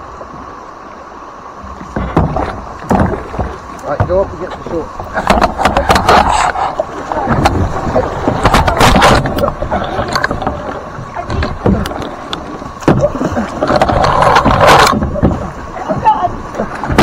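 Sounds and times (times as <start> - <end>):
paddle splashes: 0.0 - 17.0
rushing water: 0.0 - 17.0
paddle knocking kayak hull: 1.6 - 17.0.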